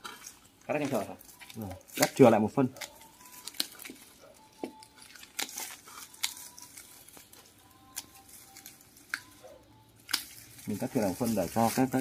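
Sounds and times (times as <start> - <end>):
leaves rustling: 0.0 - 4.2, 4.9 - 12.0
pruning shears snipping: 0.8 - 9.4, 10.0 - 12.0.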